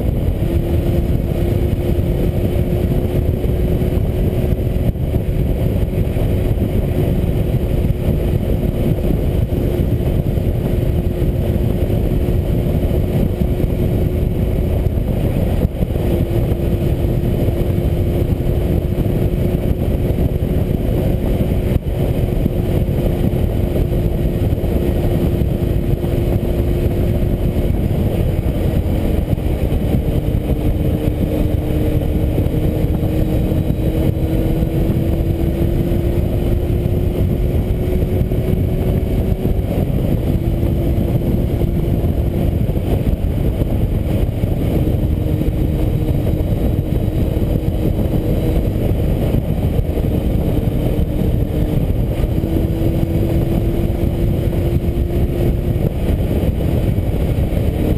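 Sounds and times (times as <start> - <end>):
motorcycle engine cruising: 0.0 - 57.9
wind noise: 0.0 - 57.9.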